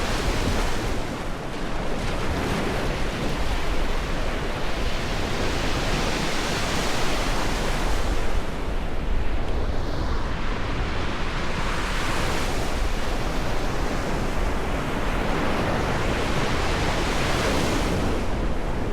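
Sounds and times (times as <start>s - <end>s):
ocean waves breaking: 0.0s - 18.9s.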